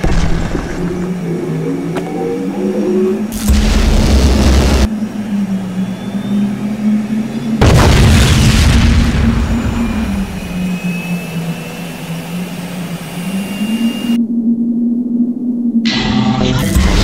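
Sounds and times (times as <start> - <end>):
steady low drone: 0.0 - 17.0.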